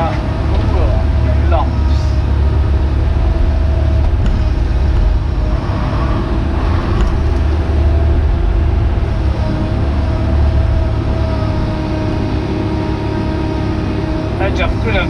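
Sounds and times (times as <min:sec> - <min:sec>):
excavator diesel engine running: 0:00.0 - 0:15.0
hydraulic whine: 0:00.0 - 0:15.0.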